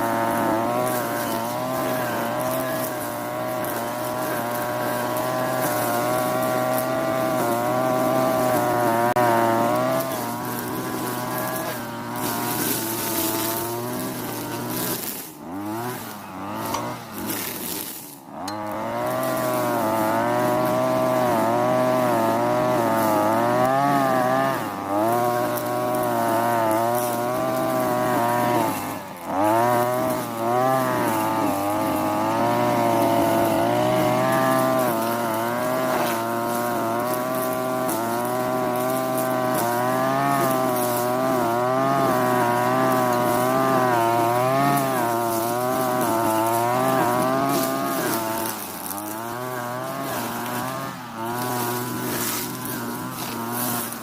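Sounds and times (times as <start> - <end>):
brush cutter engine revving: 0.0 - 54.0.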